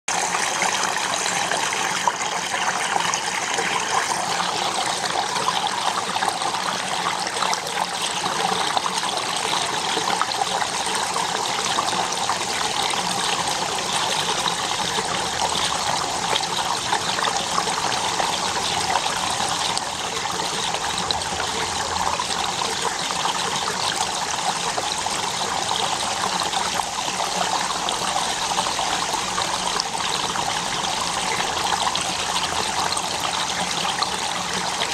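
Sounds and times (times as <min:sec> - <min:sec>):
water trickling: 0:00.1 - 0:34.9.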